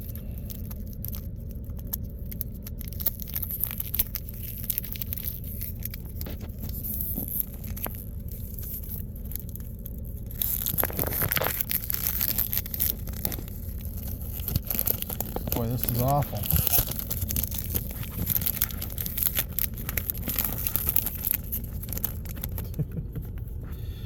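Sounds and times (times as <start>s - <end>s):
wrapper rustling: 0.0s - 22.8s
wax wrapper crinkling and tearing: 0.0s - 23.6s
steady low rumble: 0.0s - 24.0s.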